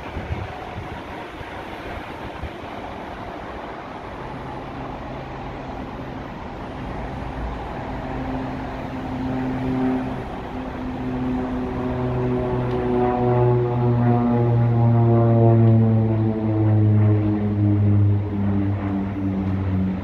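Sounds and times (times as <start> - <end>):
propeller drone: 0.0 - 20.0
turboprop engines at takeoff: 0.0 - 20.0.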